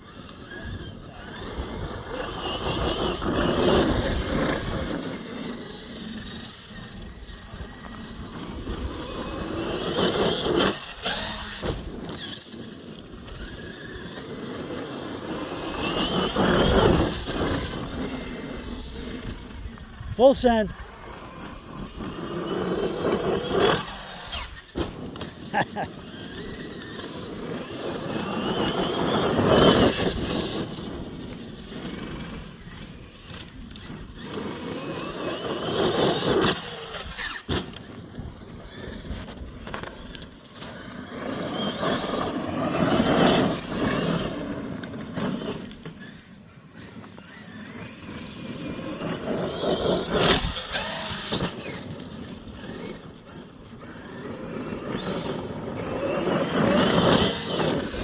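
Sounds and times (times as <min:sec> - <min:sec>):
toy truck motor whine: 0:00.0 - 0:58.0
tyres scraping on dirt: 0:00.0 - 0:58.0.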